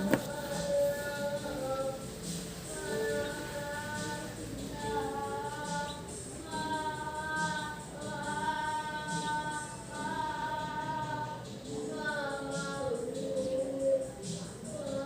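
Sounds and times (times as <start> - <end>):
song with sustained sung notes: 0.0 - 15.0.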